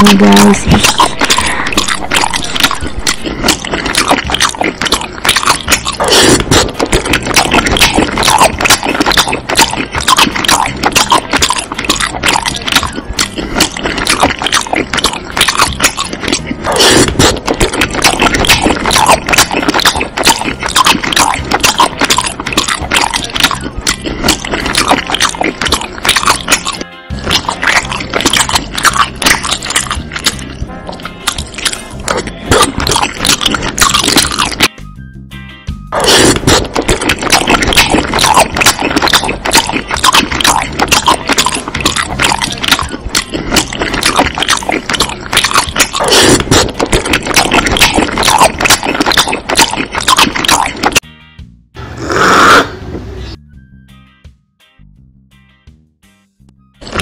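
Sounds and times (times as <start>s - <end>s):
background music: 0.0s - 52.1s, 53.0s - 57.0s.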